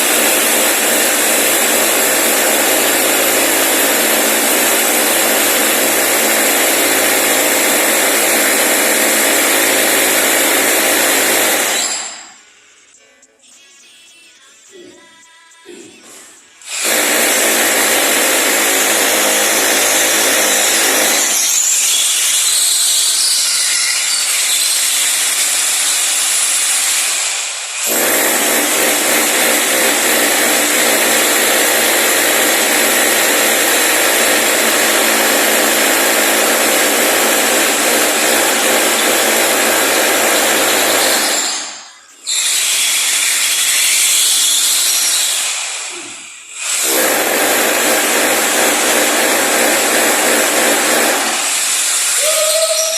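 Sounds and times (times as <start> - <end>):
electric power tool running: 0.0 - 12.4, 16.6 - 22.9, 24.5 - 52.9.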